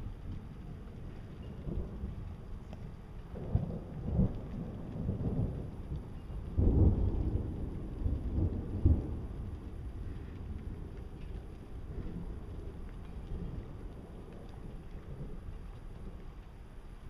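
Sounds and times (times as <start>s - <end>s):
storm wind gusting against microphone: 0.0s - 17.0s.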